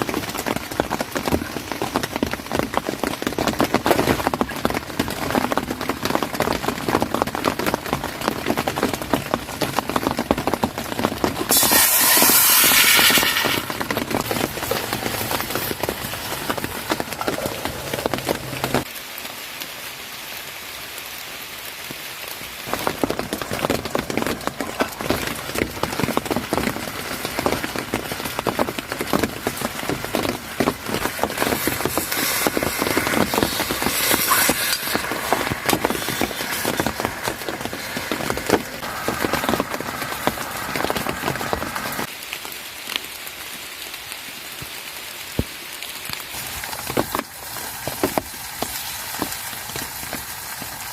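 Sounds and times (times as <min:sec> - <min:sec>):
heavy rain pattering: 0:00.0 - 0:50.9.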